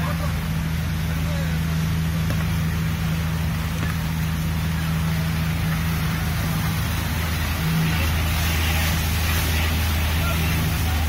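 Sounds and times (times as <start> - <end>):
ferry engine droning: 0.0 - 11.0
rushing water hiss: 0.0 - 11.0.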